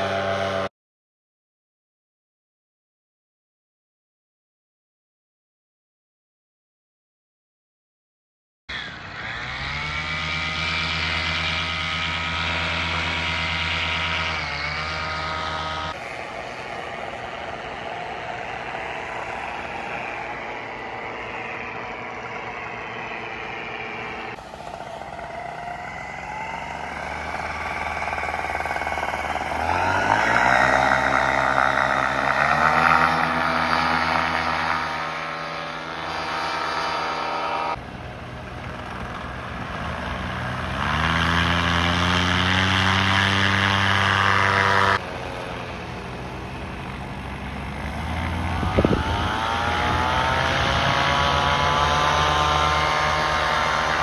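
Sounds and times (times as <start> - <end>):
paramotor engines running: 8.7 - 54.0.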